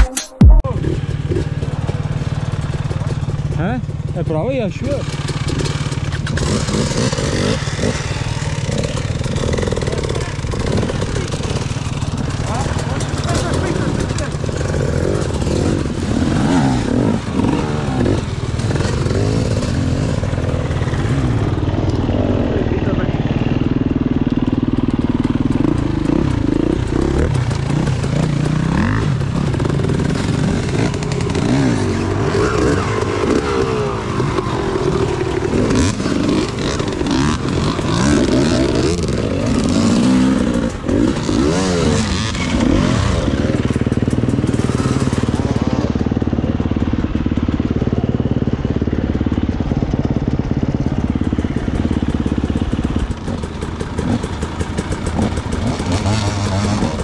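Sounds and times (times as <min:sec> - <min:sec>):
dirt bike engines revving: 0:00.6 - 0:57.0.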